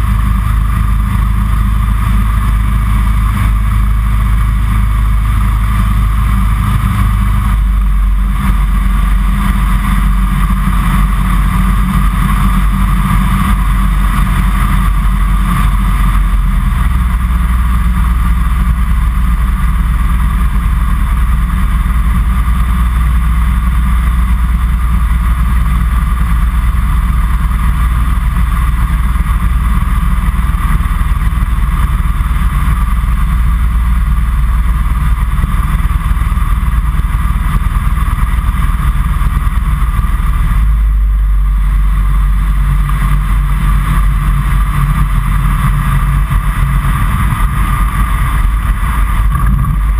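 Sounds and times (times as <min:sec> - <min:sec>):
aircraft engine and propeller droning: 0:00.0 - 0:49.9.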